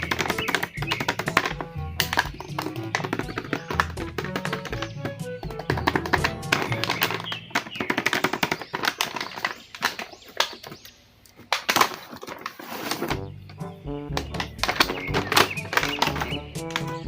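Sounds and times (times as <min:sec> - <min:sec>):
sharp clicks and bangs: 0:00.0 - 0:17.0.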